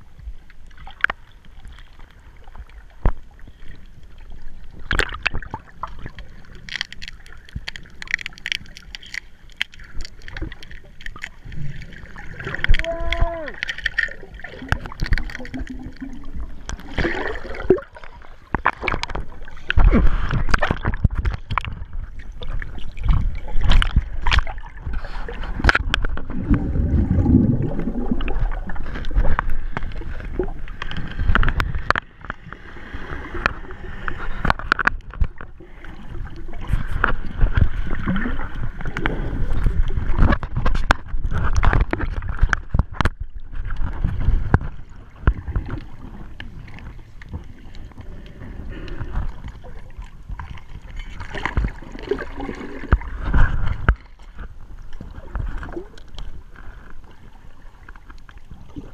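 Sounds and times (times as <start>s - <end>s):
underwater rushing and gurgling: 0.0s - 58.9s.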